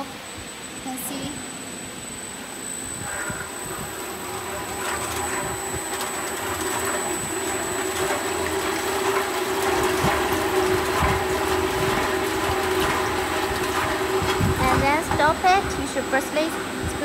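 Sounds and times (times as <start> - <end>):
mixer motor whirring: 0.0 - 17.0
blades stirring liquid: 2.4 - 17.0.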